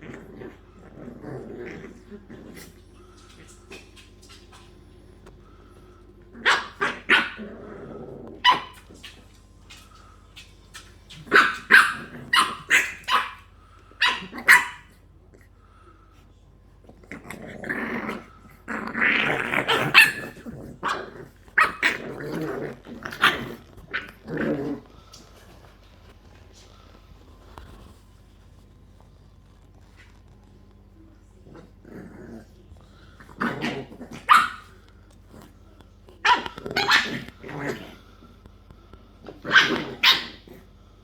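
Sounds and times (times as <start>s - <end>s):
puppies growling: 0.0s - 41.0s.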